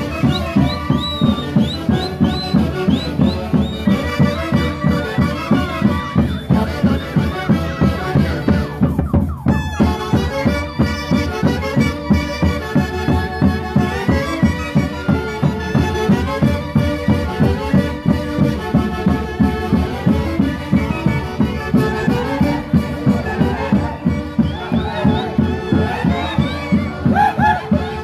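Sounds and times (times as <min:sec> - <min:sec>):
marching band playing: 0:00.0 - 0:28.0
steady bass drum beat: 0:00.0 - 0:28.0.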